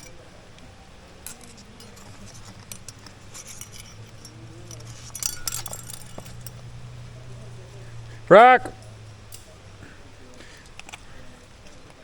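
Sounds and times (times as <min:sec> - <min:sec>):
metal climbing gear clinking: 0:00.0 - 0:12.0.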